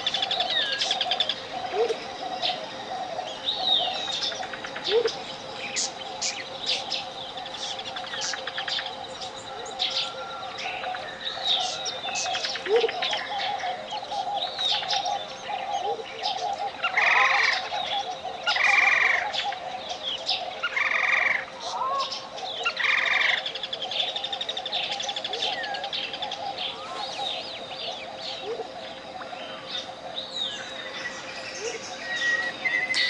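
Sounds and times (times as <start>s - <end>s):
jungle birds chirping: 0.0s - 33.0s
loud bird call: 0.0s - 33.0s.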